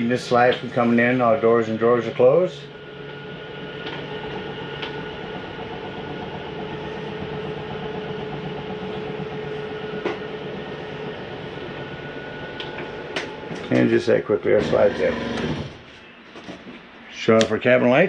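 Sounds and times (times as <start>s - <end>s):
electric motor humming and whining: 0.0s - 16.6s.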